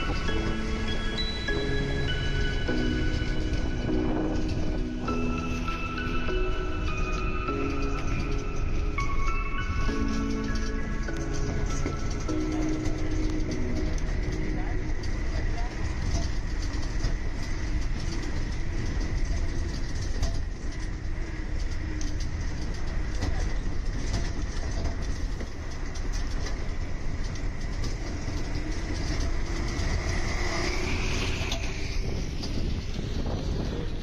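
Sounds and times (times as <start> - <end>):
rattling clicks: 0.0 - 33.8
bus engine and road rumble: 0.0 - 34.0
thin steady whine: 0.0 - 34.0.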